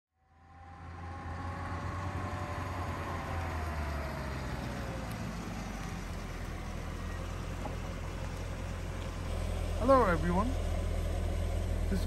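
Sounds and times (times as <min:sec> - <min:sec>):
car engine rumbling: 0:00.2 - 0:12.0.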